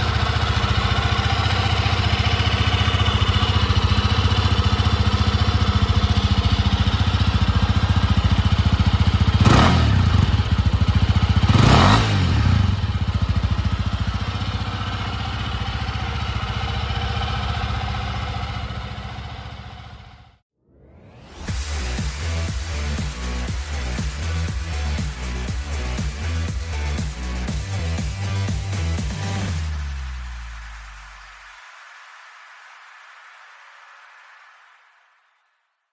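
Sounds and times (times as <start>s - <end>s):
motorcycle engine idling: 0.0s - 20.4s, 21.5s - 29.8s.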